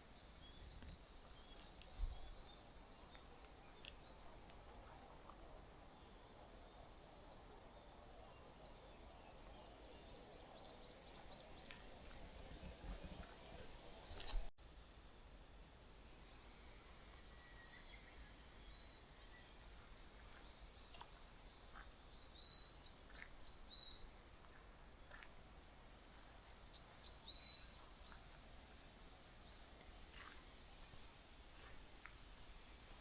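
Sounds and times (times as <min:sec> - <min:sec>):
small birds chirping: 0:00.0 - 0:14.5, 0:15.8 - 0:33.0
outdoor background noise: 0:00.0 - 0:33.0.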